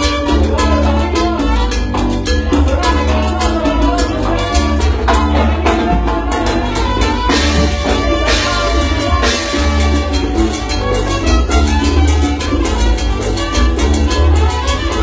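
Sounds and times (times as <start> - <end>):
latin dance music: 0.0 - 15.0.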